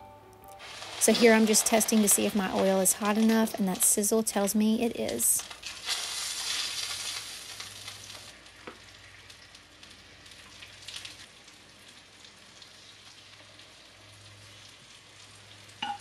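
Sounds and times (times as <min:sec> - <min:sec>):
hot oil sizzling in a pan: 0:00.6 - 0:16.0.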